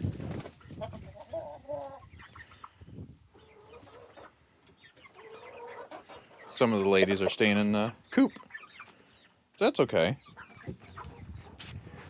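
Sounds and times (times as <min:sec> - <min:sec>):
hens clucking: 0:00.1 - 0:12.0.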